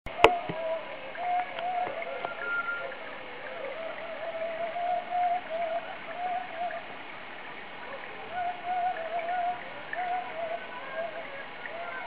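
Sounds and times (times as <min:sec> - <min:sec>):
steady hiss: 0:00.1 - 0:12.0.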